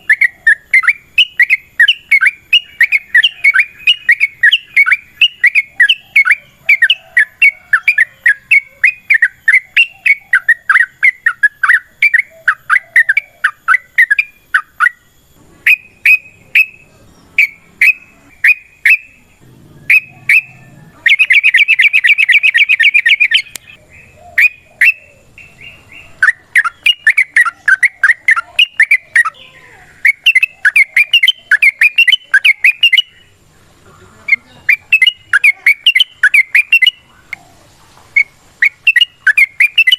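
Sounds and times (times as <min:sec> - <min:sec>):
fast bird trill: 0:00.0 - 0:33.5, 0:34.2 - 0:37.4, 0:38.2 - 0:39.9
bulbul singing: 0:00.0 - 0:39.9.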